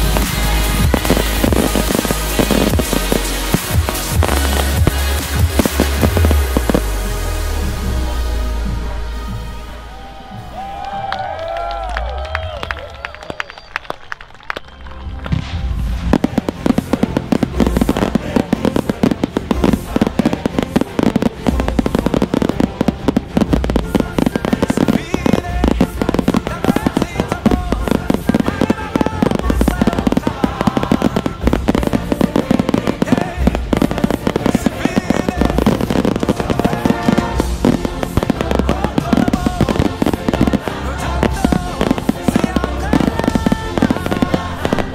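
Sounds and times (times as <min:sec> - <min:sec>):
fireworks bursting: 0:00.0 - 0:10.7, 0:13.1 - 0:44.9
music with heavy bass beat: 0:00.0 - 0:10.8, 0:15.6 - 0:44.9.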